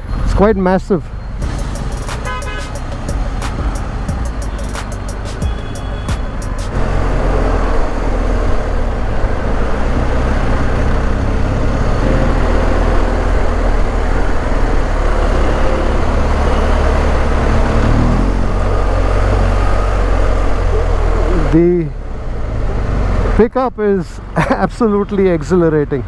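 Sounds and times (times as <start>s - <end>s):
motorcycle engine rumble: 0.0s - 23.4s
road noise: 0.0s - 26.0s.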